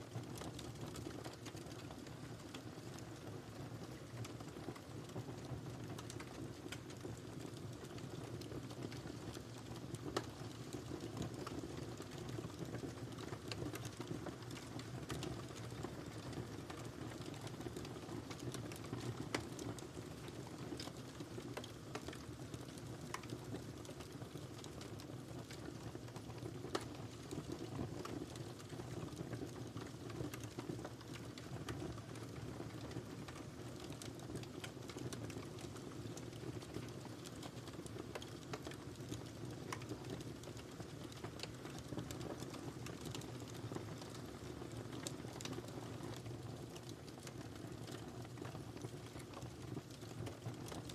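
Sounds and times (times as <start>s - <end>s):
fire crackling and popping: 0.1s - 50.9s.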